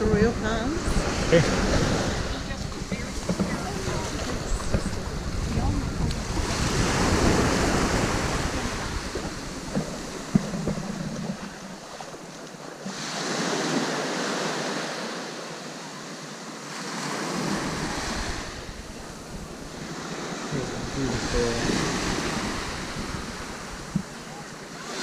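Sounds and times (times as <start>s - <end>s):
wind buffeting microphone: 0.0s - 12.7s, 17.2s - 25.0s
waves washing onto sand: 0.0s - 25.0s.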